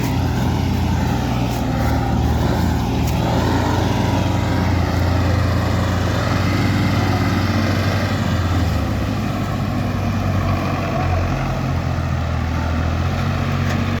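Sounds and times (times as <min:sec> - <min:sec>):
diesel tractor engine running: 0:00.0 - 0:14.0.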